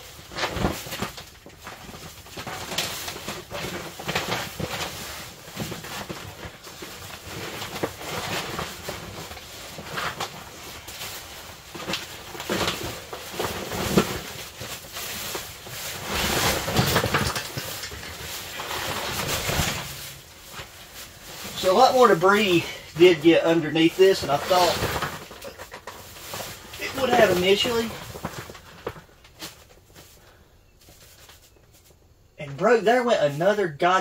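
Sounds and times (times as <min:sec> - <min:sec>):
heavy fabric rustling and flapping: 0:00.0 - 0:30.2.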